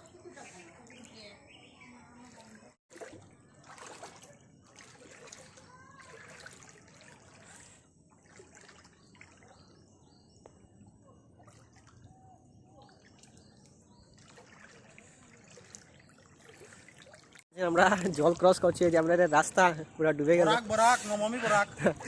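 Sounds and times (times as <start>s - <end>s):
floodwater trickling and splashing: 0.2s - 22.0s.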